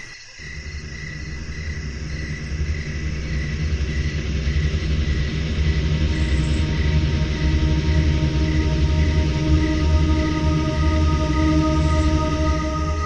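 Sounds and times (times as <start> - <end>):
crickets chirping: 0.0 - 13.0
low rumbling drone: 0.0 - 13.0.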